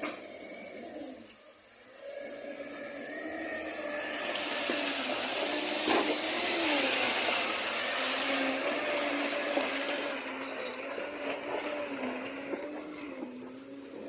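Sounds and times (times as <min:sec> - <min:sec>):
motor running with hiss and whine: 0:00.0 - 0:14.0.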